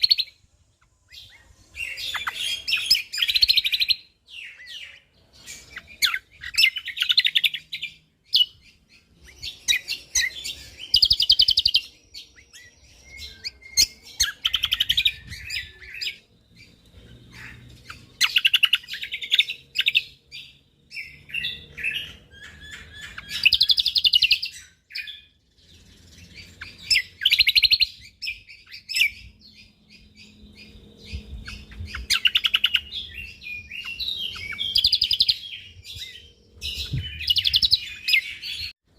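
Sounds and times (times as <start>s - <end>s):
songbird singing rapid high notes: 0.0s - 38.7s
soft bird chirps: 0.0s - 38.9s.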